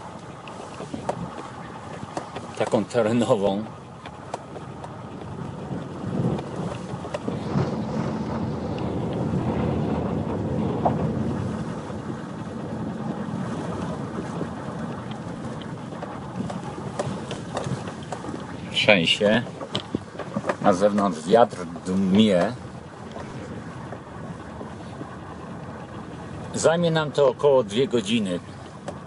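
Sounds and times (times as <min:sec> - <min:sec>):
car tyres rumbling on gravel: 0:00.0 - 0:29.0
wind blowing: 0:00.0 - 0:29.0.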